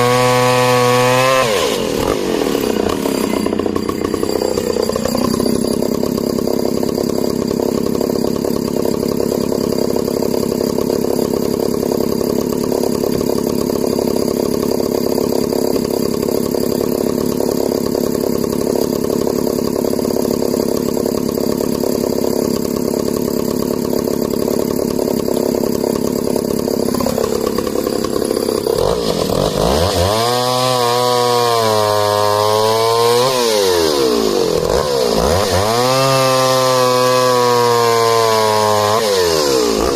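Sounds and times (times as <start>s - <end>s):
chainsaw cutting wood: 0.0s - 39.9s
chainsaw revving: 0.0s - 39.9s.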